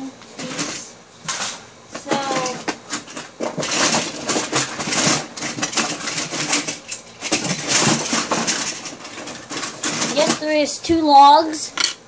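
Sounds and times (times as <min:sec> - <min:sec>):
plastic toy pieces clattering: 0:00.4 - 0:10.6.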